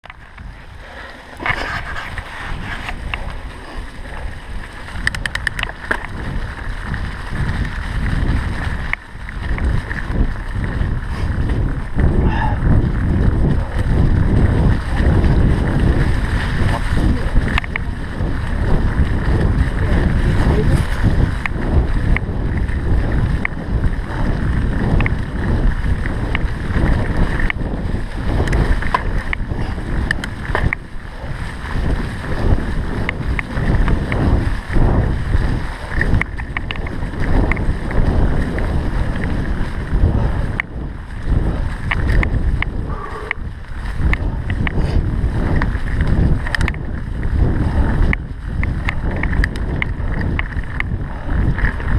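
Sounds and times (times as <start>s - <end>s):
bike clicks and rattles: 0.0s - 51.9s
wind rumbling on microphone: 0.0s - 51.9s.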